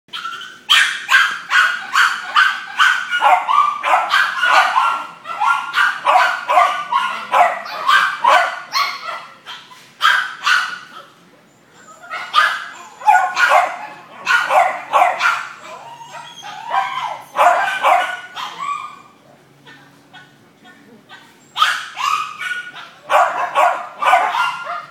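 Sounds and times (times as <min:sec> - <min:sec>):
dog yipping: 0:00.1 - 0:11.0, 0:11.8 - 0:20.4, 0:21.1 - 0:24.9.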